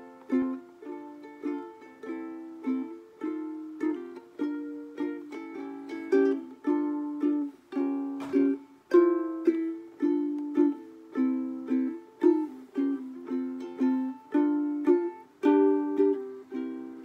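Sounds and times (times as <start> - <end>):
ukulele strumming: 0.0 - 17.0.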